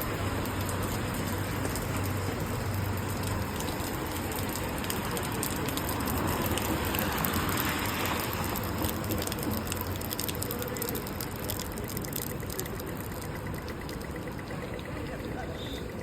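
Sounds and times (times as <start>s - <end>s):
tyres hissing on wet road: 0.0s - 13.5s
rain hiss: 0.0s - 14.8s
traffic: 0.0s - 16.0s.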